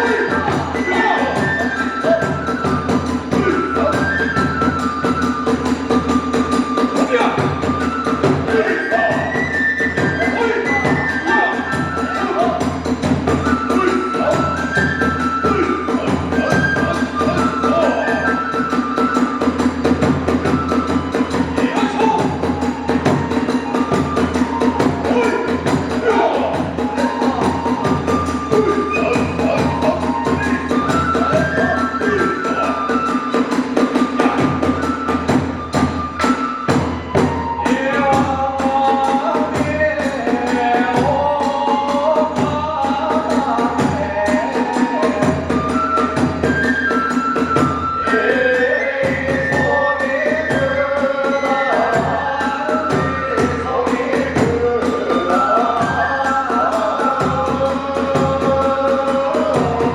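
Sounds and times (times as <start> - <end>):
drum beats: 0.0 - 59.9.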